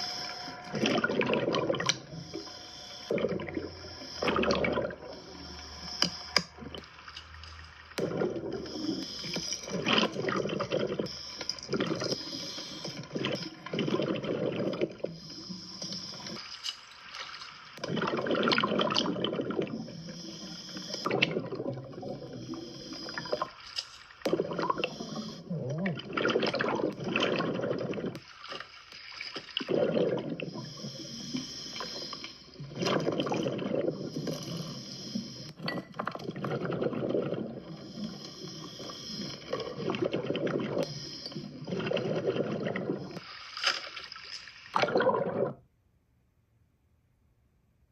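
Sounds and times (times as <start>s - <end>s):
regulator breathing underwater: 0.0s - 16.6s, 17.8s - 28.3s, 29.6s - 35.7s, 36.3s - 43.5s
exhaled bubbles gurgling: 0.0s - 45.7s.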